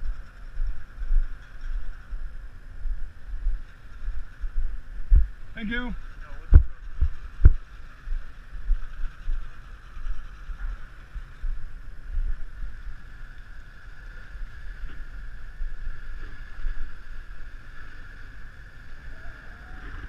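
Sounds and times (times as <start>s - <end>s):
high-pitched machinery hum: 0.0s - 20.0s
low rumble: 0.0s - 20.0s
wind buffeting microphone: 0.0s - 20.0s.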